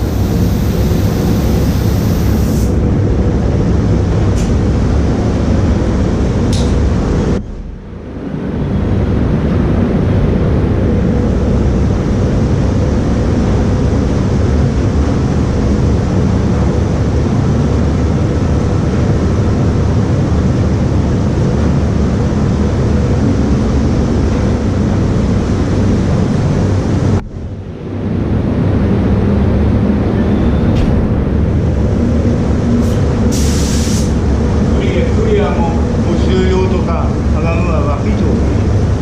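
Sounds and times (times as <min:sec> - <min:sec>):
ventilation fans rushing: 0:00.0 - 0:39.0.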